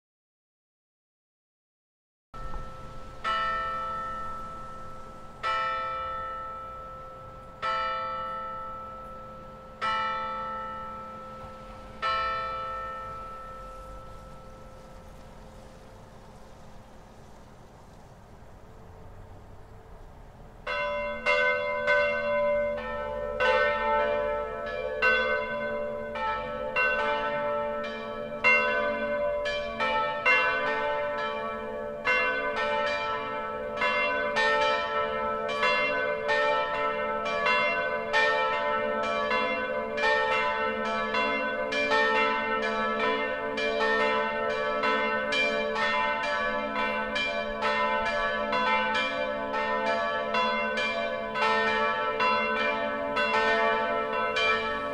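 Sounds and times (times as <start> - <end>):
church bells pealing: 2.4 - 16.5, 20.6 - 54.9.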